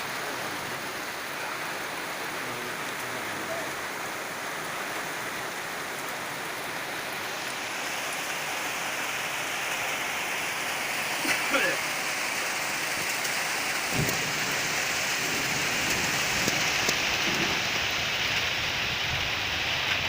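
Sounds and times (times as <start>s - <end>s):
rain pouring on plants: 0.0s - 20.0s.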